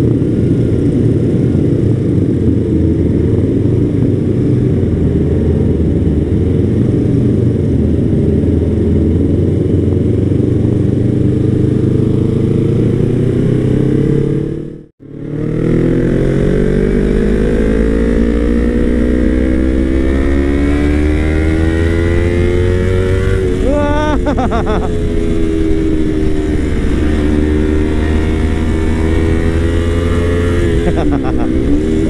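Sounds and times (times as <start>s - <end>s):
motorcycle engine accelerating: 0.0s - 32.0s
wind rumble on microphone: 0.0s - 32.0s.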